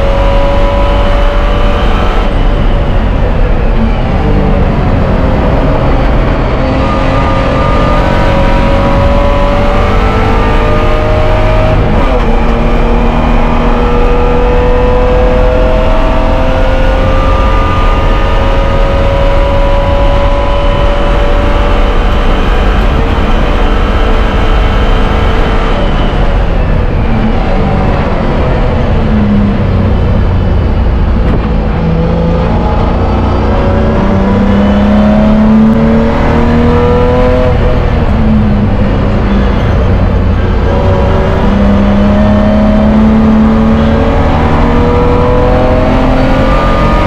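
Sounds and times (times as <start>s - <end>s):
race car engine at high revs: 0.0s - 47.0s.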